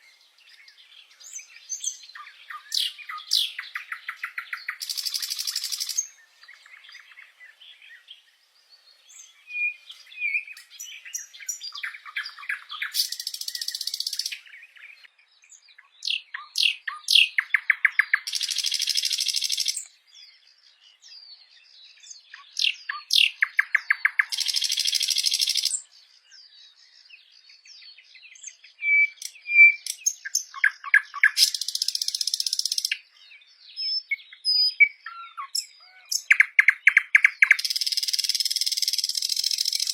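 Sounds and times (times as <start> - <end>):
short bird chirps: 0.0 - 39.9.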